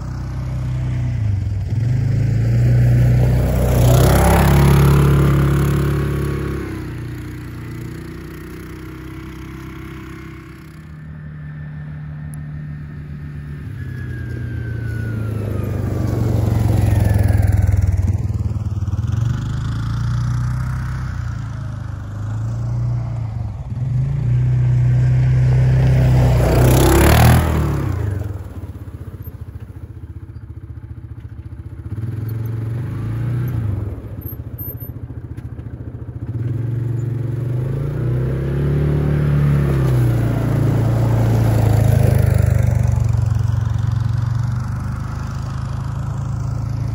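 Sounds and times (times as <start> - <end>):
vehicle engine running: 0.0 - 46.9.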